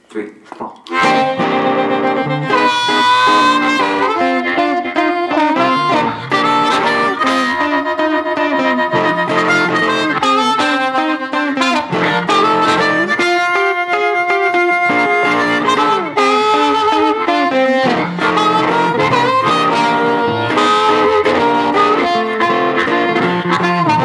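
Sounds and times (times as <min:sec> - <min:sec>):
guitar accompaniment: 0:00.8 - 0:24.0
blues harmonica playing: 0:00.9 - 0:24.0.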